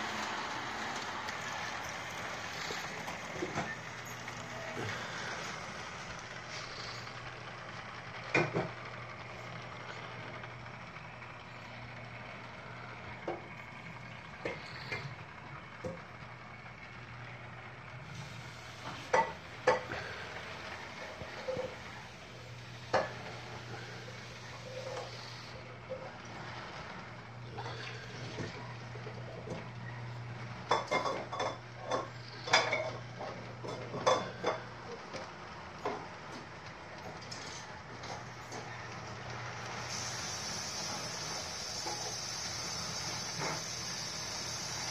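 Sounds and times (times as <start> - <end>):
model train motor hum: 0.0 - 44.9
wheels clicking over track: 0.0 - 44.9.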